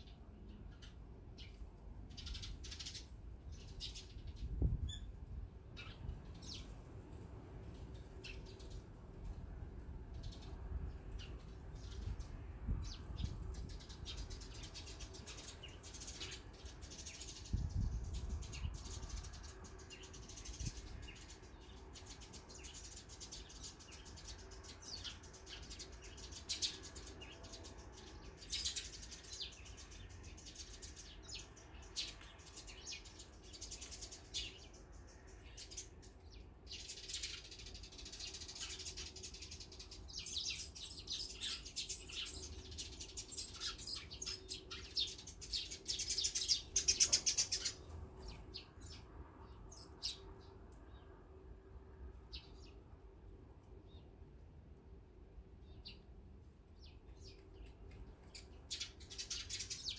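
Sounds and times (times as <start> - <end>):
sparrows chirping: 0.0 - 51.2, 52.1 - 53.0, 55.4 - 59.9.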